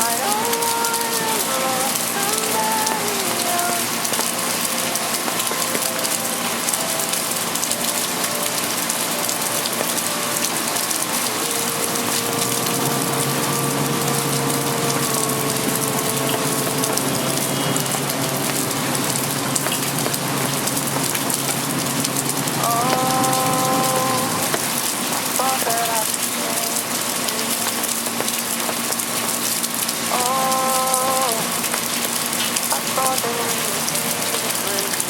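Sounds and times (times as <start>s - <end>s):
low steady hum: 0.0s - 35.0s
rain pattering on hard surfaces: 0.0s - 35.0s.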